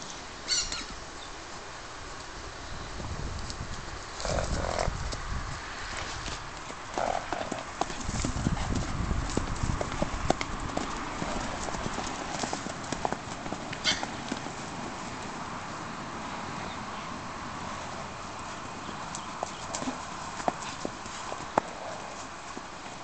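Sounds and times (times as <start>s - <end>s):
hooves thudding on ground: 3.0s - 23.0s.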